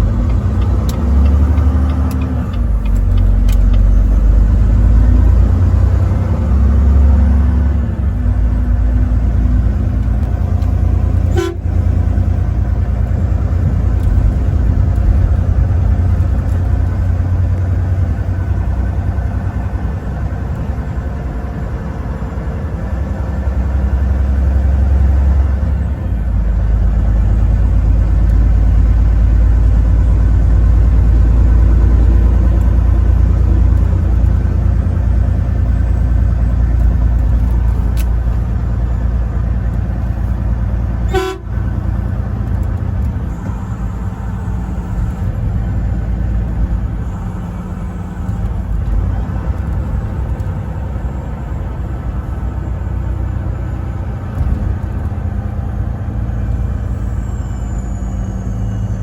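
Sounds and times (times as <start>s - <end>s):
truck engine and road rumble: 0.0s - 59.0s.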